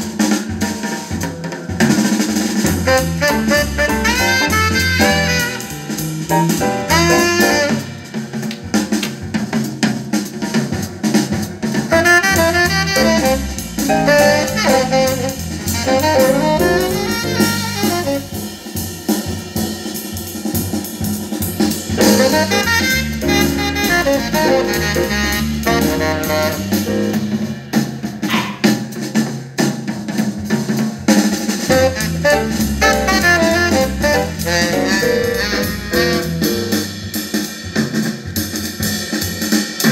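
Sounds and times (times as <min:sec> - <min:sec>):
jazzy music over speakers: 0:00.0 - 0:39.9.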